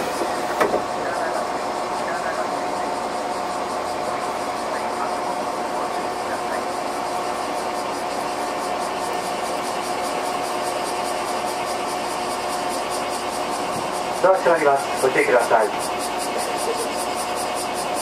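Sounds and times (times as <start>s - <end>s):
train equipment hum: 0.0s - 18.0s.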